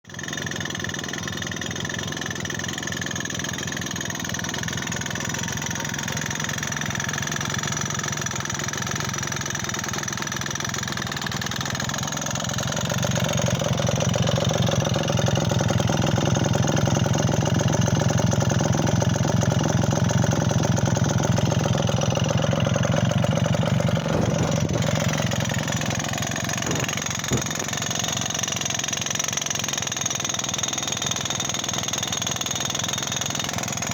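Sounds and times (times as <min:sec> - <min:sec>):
two-stroke engine rattling: 0:00.1 - 0:33.9.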